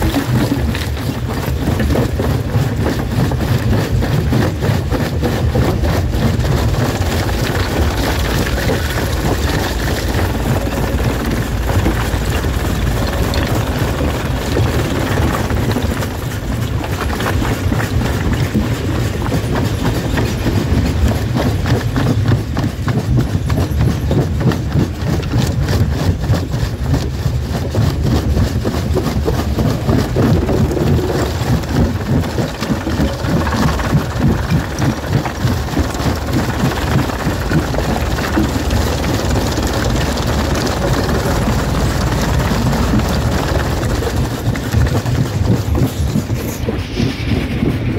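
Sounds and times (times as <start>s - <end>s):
heavy machine drone: 0.0s - 23.5s, 28.9s - 47.9s
stones knocking and cracking: 0.0s - 27.1s, 27.7s - 46.8s.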